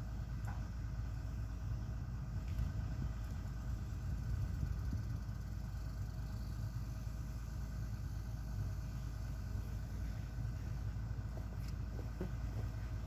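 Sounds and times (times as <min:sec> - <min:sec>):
excavator diesel engine idling: 0:00.0 - 0:13.0.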